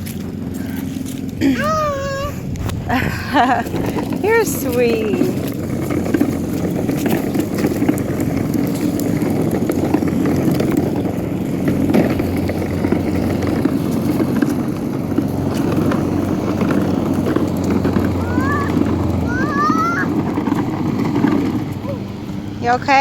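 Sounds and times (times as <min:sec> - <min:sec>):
toy truck wheels rumbling on pavement: 0:00.0 - 0:23.0.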